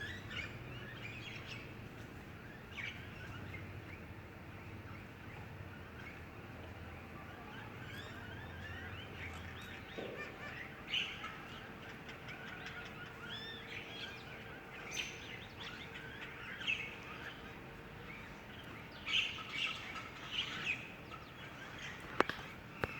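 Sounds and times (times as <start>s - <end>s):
faint steady hum: 0.0s - 22.9s
loud bird calls: 0.0s - 22.9s
small birds chirping: 0.0s - 22.9s.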